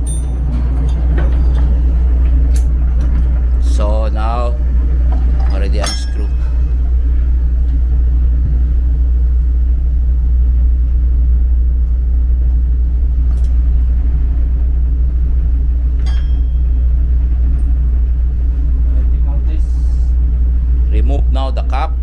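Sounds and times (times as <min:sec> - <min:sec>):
ship engines rumbling: 0:00.0 - 0:22.0.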